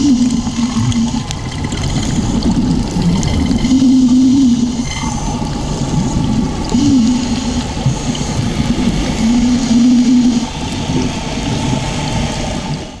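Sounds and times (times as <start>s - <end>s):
wavering low tone: 0.0s - 11.9s
underwater low rumble: 0.0s - 13.0s.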